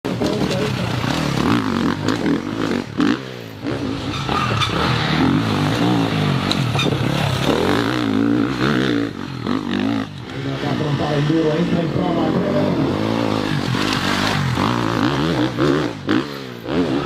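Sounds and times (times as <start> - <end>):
motorbike engines revving: 0.1 - 17.0.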